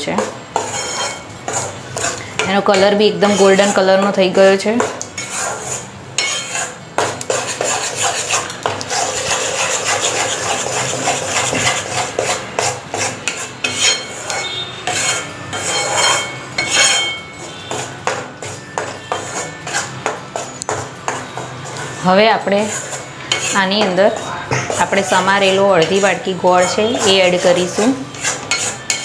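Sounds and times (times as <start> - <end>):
metal spatula scraping pan: 0.0 - 29.0.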